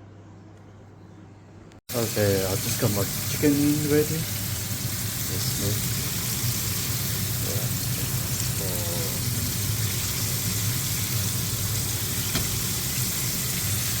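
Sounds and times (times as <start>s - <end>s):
chicken sizzling in a pan: 1.9s - 14.0s.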